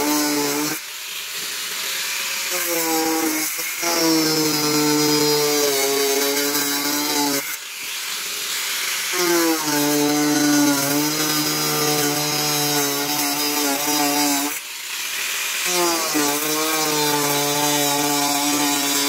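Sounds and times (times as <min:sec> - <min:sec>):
angle grinder cutting sheet: 0:00.0 - 0:19.0.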